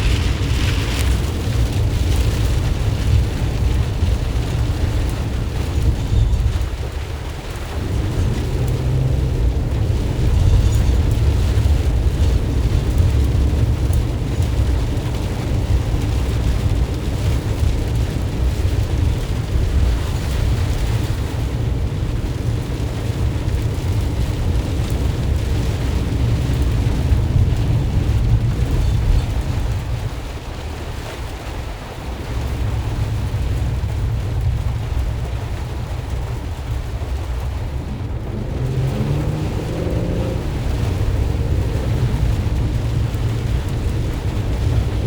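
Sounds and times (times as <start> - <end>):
engine and road rumble: 0.0 - 45.0
rain and tyre spray hiss: 0.0 - 45.0.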